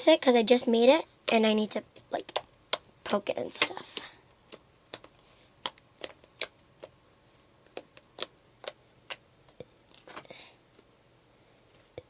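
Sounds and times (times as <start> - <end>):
soft slime squish: 0.7 - 11.0.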